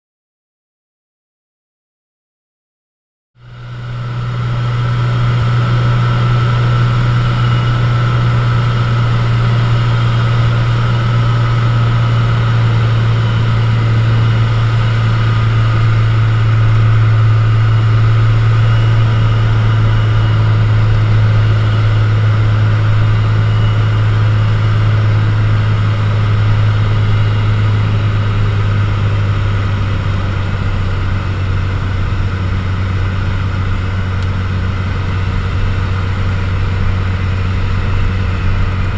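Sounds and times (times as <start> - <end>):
propeller plane engine droning: 3.4 - 38.9.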